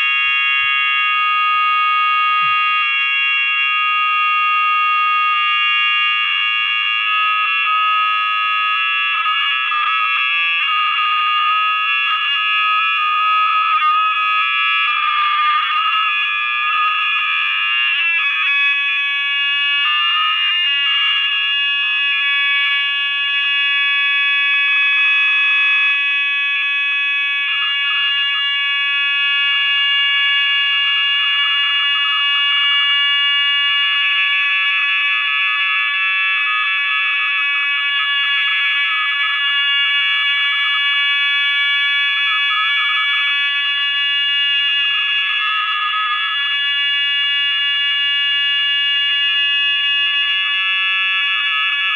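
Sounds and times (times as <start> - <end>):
shrill electronic feedback whine: 0.0 - 51.9.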